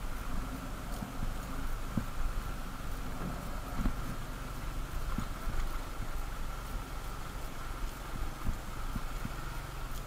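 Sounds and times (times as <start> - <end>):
motorcycle engine at low speed: 0.0 - 10.0
wind noise on microphone: 0.0 - 10.0.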